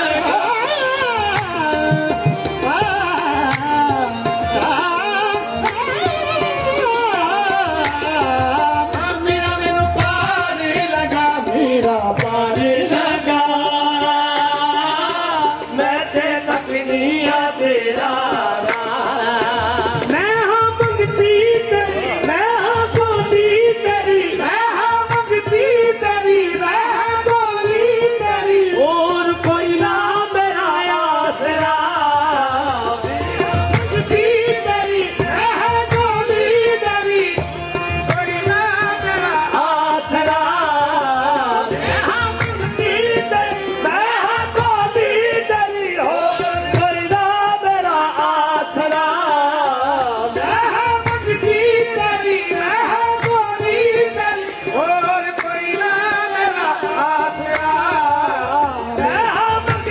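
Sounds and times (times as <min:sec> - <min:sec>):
singing over a beat: 0:00.0 - 0:59.9.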